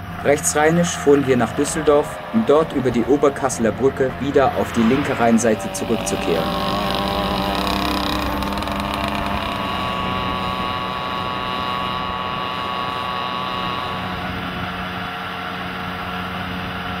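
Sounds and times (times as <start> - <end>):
moped engine buzzing: 0.0 - 17.0.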